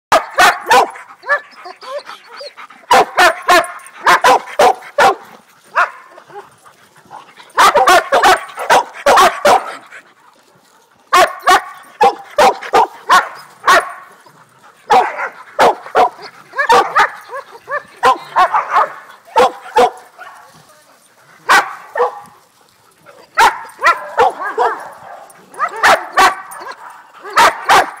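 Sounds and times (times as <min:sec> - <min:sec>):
dogs barking and yipping: 0:00.1 - 0:28.0.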